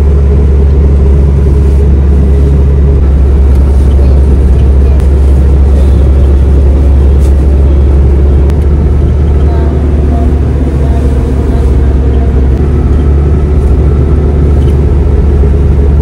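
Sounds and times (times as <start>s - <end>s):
car engine and road noise drone: 0.0s - 16.0s.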